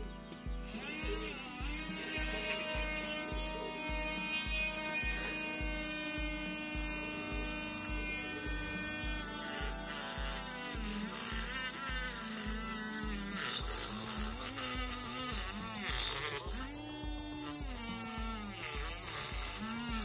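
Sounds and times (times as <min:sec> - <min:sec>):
small motor cutting disc whining: 0:00.0 - 0:20.0.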